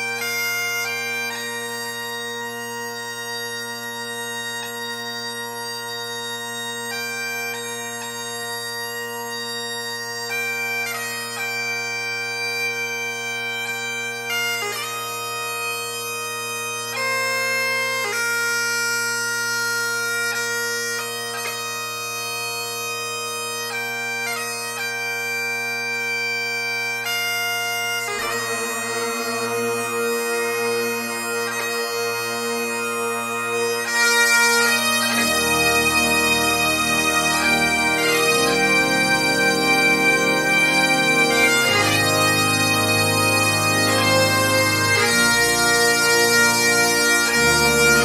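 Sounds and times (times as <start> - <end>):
bagpipe music: 0.0 - 48.0.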